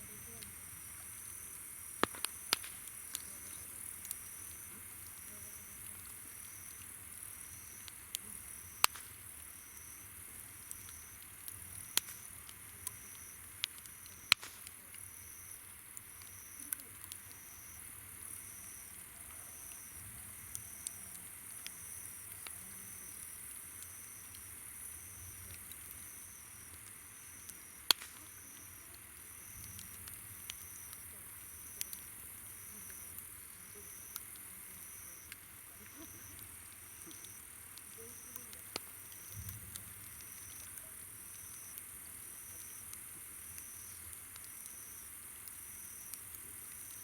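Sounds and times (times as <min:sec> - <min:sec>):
insect chirping: 0:00.0 - 0:14.4, 0:15.0 - 0:47.0
insects trilling: 0:00.0 - 0:14.4, 0:15.0 - 0:47.0
campfire crackling: 0:00.0 - 0:47.0.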